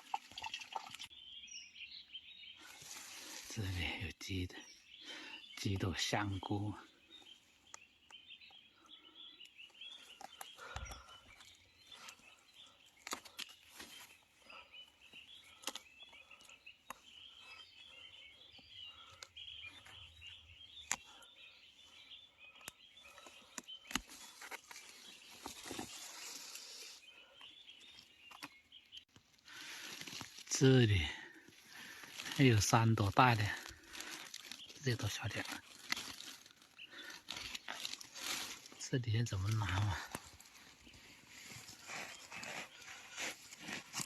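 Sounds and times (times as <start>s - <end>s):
birds chirping: 0.0s - 44.0s
rustling in undergrowth: 2.4s - 4.8s, 9.0s - 28.6s, 29.2s - 44.0s.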